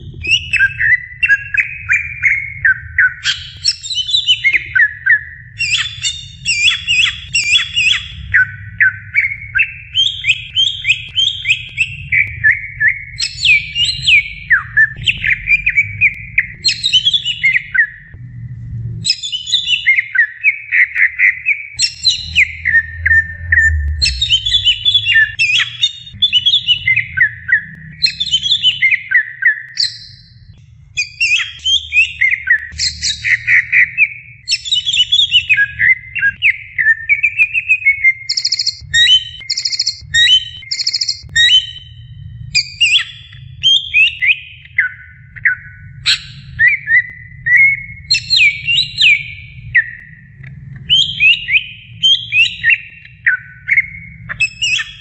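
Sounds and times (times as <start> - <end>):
bird singing whistled phrases: 0.2 - 18.1, 19.0 - 42.0, 42.6 - 50.2, 50.9 - 55.0.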